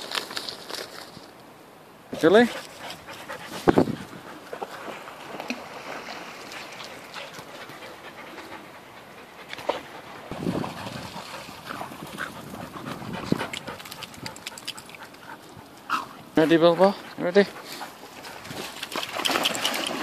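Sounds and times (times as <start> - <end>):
dogs panting: 2.2 - 20.0.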